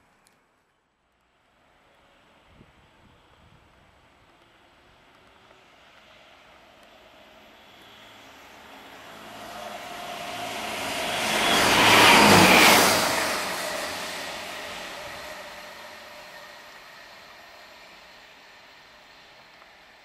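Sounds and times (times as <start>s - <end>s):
diesel train passing at speed: 1.6s - 20.0s.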